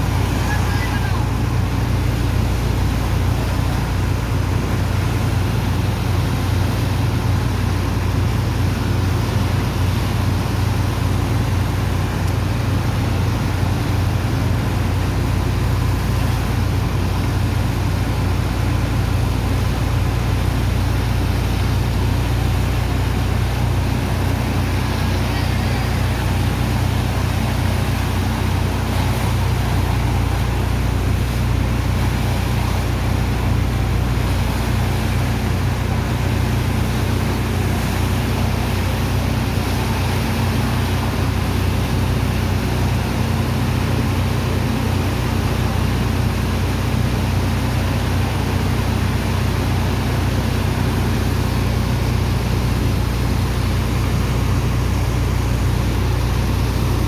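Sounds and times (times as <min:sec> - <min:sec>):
diesel engine hum: 0:00.0 - 0:57.0
water and sand rushing through pump: 0:00.0 - 0:57.0.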